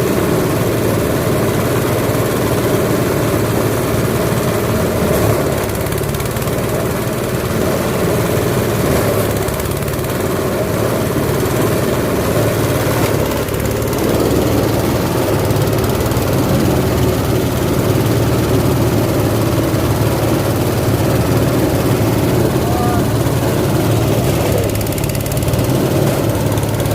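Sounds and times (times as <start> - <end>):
grinding machine drone: 4.9 - 26.9.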